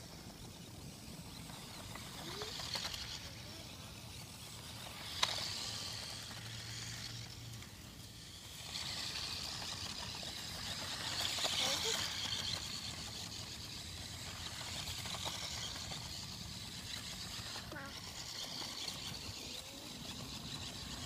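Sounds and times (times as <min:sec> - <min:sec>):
toy electric motor whirring: 0:00.0 - 0:21.0
tyres running over grass and pavement: 0:00.1 - 0:21.0.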